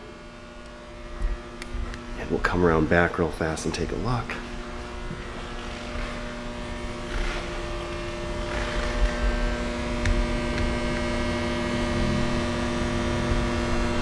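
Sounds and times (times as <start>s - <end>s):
electrical machine hum: 0.0s - 14.0s.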